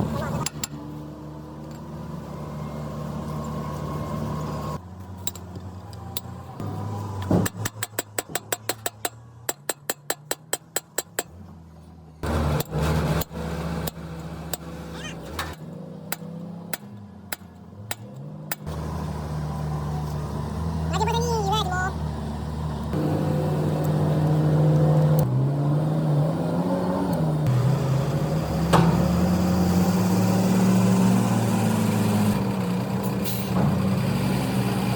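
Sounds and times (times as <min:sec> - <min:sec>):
engine running: 0:00.0 - 0:09.5, 0:10.9 - 0:34.9.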